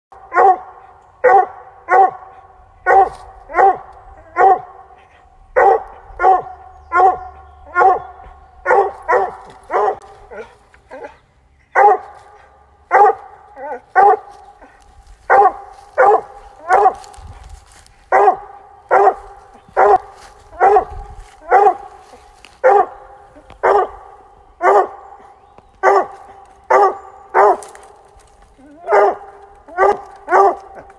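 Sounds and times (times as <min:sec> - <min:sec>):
dog barking: 0:00.2 - 0:28.0, 0:28.6 - 0:30.9.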